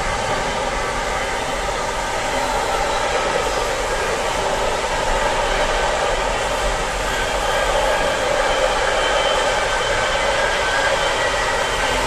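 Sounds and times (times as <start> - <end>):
freight train wheels on track: 0.0 - 12.0.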